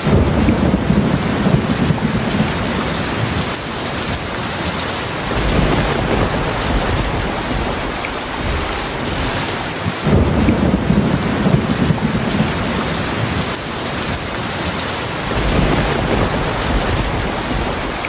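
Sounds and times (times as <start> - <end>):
deep rolling thunder: 0.0 - 18.0
heavy rain pouring: 0.0 - 18.0.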